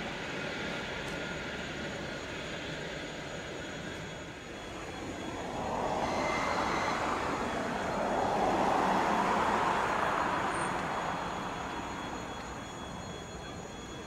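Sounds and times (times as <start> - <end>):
train wheels and motors rushing: 0.0 - 14.0.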